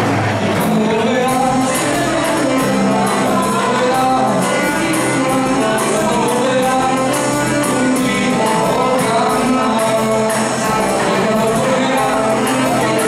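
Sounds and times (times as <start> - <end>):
drum kit beat: 0.0 - 13.0
live band playing: 0.0 - 13.0
singing into microphones: 0.0 - 13.0.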